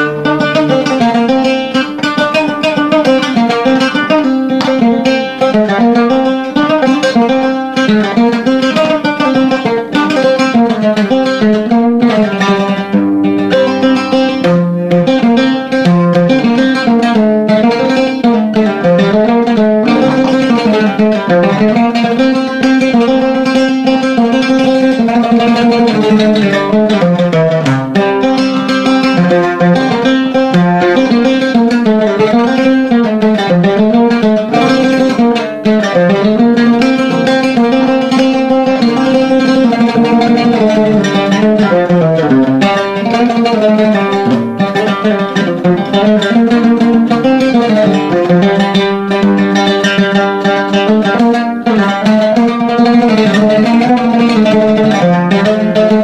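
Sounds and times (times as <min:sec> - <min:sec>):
oud melody: 0:00.0 - 0:56.0.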